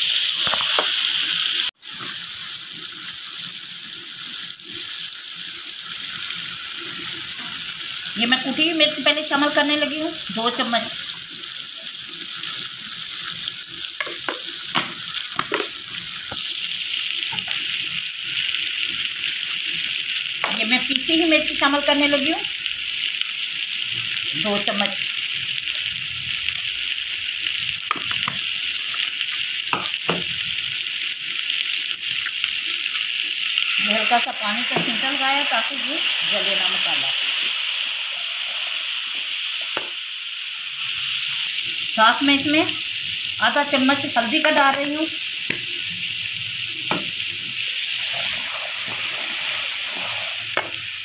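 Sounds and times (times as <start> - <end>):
masala sizzling in hot oil: 0.0 - 51.0.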